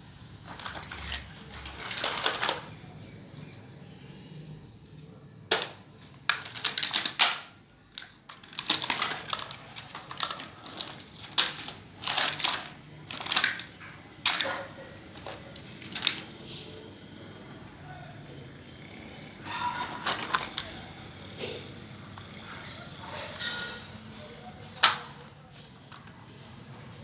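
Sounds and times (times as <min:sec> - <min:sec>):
plastic toys clicking and rattling: 0:00.2 - 0:03.7, 0:05.4 - 0:17.0, 0:18.8 - 0:27.0.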